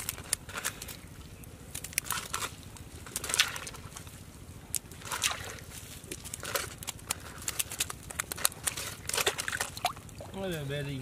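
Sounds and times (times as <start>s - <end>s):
wet net clicking and crackling on mud: 0.0s - 10.4s.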